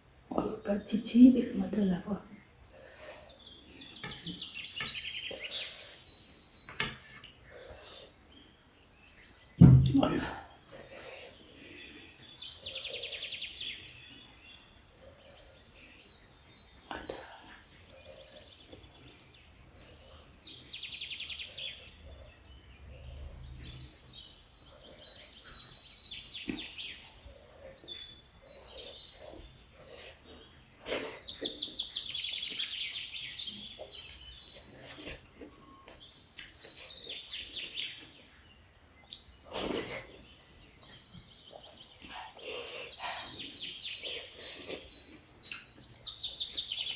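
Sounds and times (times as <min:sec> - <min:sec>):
birds chirping and trilling: 0:00.0 - 0:46.9
soft eating sounds: 0:01.6 - 0:46.9.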